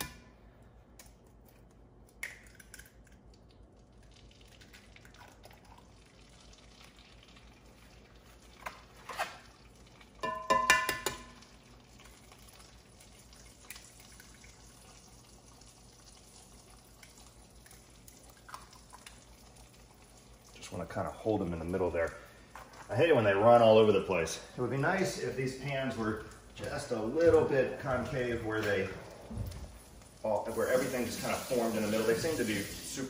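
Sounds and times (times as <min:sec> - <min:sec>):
eggs sizzling in a pan: 0:02.2 - 0:33.0.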